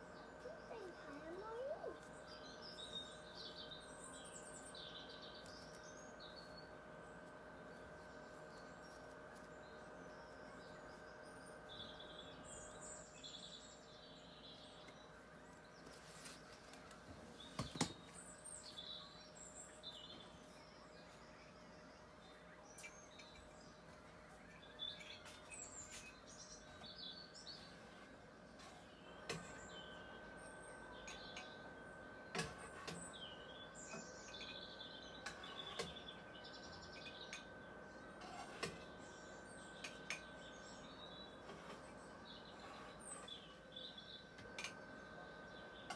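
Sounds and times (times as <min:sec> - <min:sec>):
low steady hum: 0:00.0 - 0:45.9
small birds chirping: 0:00.0 - 0:45.9.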